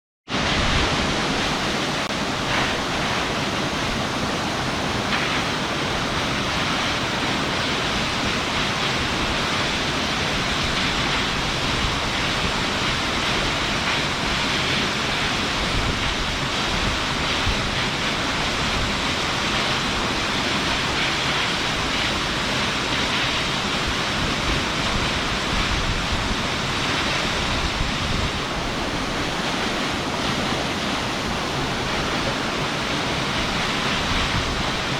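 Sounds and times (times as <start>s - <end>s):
waterfall pouring: 0.3s - 34.9s.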